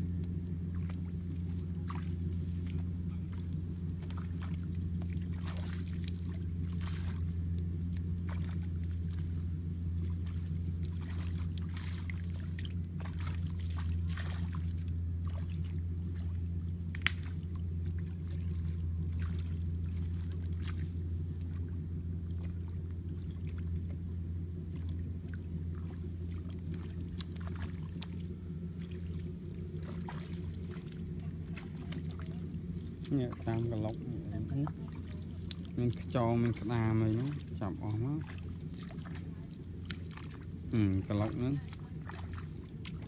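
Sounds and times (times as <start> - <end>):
feet wading through water: 0.0 - 43.0
low hum: 0.0 - 43.0
sharp splash: 0.7 - 21.7, 24.8 - 43.0.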